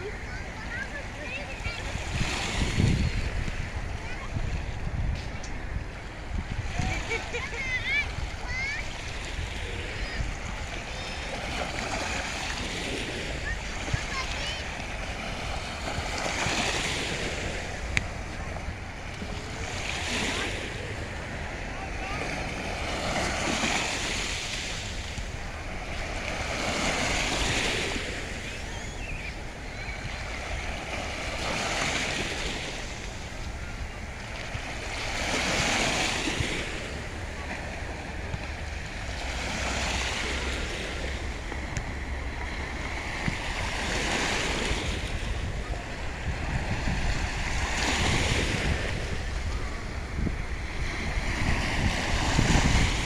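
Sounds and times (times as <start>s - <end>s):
sea waves breaking on shore: 0.0s - 53.0s
wind rumbling on microphone: 0.0s - 53.0s.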